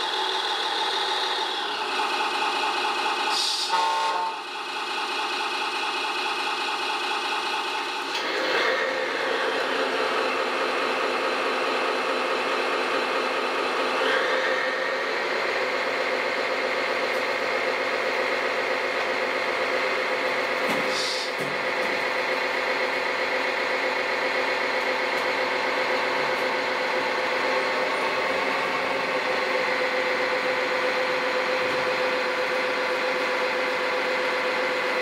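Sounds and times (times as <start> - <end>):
diesel engine sound from speakers: 0.0 - 35.0.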